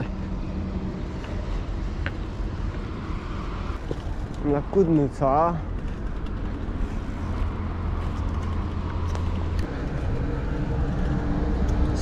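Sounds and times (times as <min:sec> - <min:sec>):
low road noise rumble: 0:00.0 - 0:12.0.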